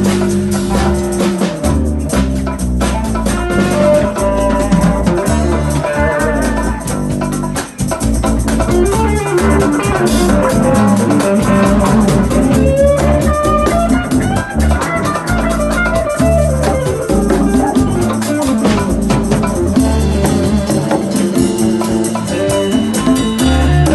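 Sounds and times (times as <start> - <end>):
bass: 0.0 - 23.9
drum kit: 0.0 - 23.9
guitar playing: 0.0 - 23.9.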